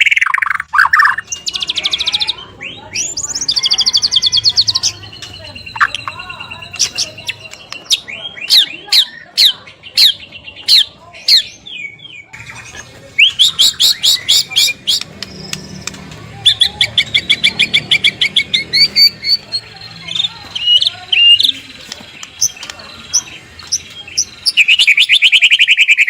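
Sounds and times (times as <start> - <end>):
bird whistling and trilling: 0.0 - 21.6, 22.4 - 26.0.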